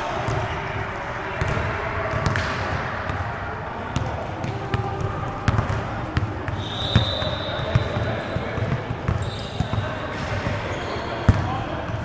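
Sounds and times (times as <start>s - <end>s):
ball bouncing on hard court: 1.4s - 3.2s, 4.0s - 12.0s.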